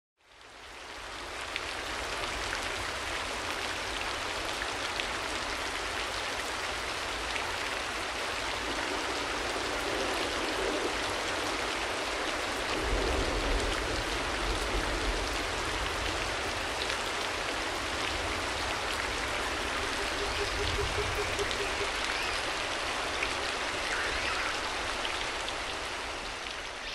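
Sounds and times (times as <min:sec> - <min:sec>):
rain falling: 0:00.2 - 0:26.9.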